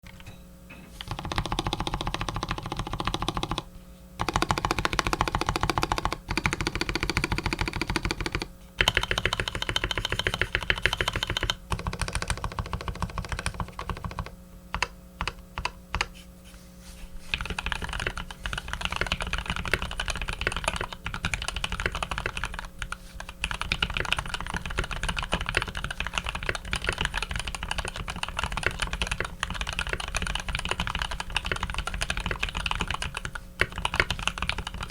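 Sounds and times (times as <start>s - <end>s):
mechanical keyboard typing: 1.0s - 16.1s, 17.3s - 34.9s.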